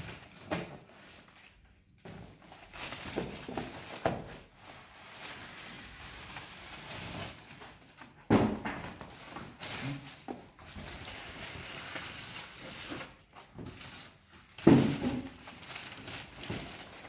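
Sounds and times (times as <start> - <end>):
plastic and foam crinkling: 0.0 - 17.0.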